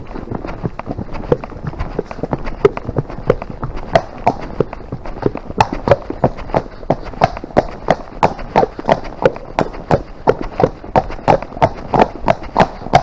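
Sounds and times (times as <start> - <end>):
hoofbeats on dirt track: 0.0 - 13.0.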